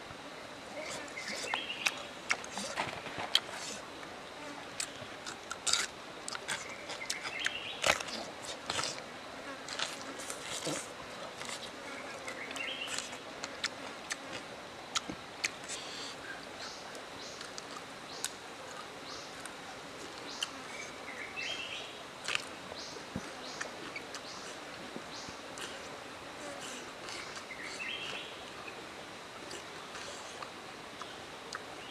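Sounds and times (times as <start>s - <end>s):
insects buzzing: 0.0s - 31.9s
close-up chewing and crunching: 0.9s - 3.8s, 4.8s - 9.0s, 9.6s - 21.6s, 22.2s - 28.8s, 29.4s - 31.8s.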